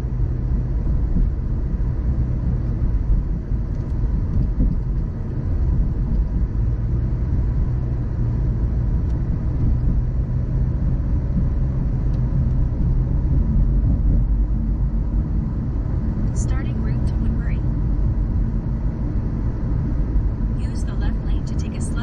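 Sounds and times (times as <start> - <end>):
car driving on road: 0.0 - 22.0.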